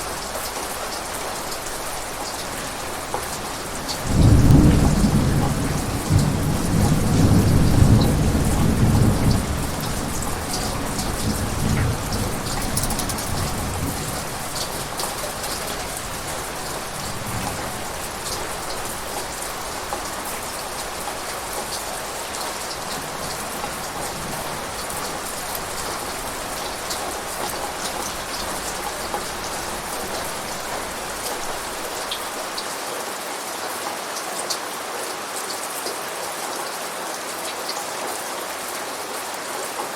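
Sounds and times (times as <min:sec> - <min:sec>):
thunder rumbling: 0:00.0 - 0:32.5
heavy rain pattering: 0:00.0 - 0:39.9.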